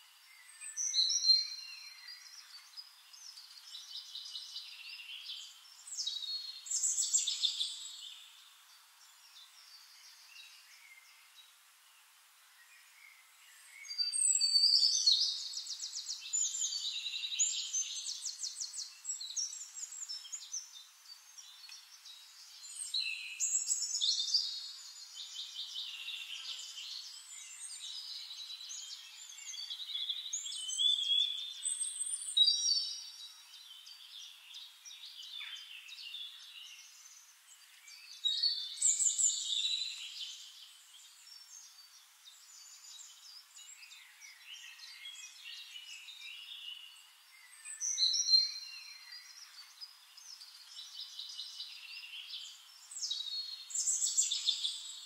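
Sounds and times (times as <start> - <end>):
songbird singing trills: 0.0 - 11.5, 12.5 - 55.0.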